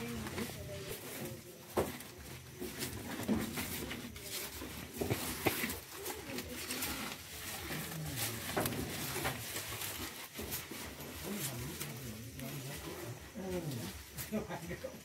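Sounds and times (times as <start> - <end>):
animal crunching fodder: 0.0 - 14.3.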